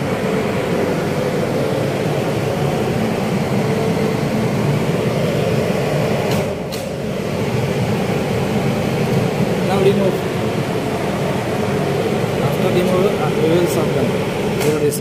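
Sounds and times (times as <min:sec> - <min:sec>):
exhaust fan humming: 0:00.0 - 0:15.0.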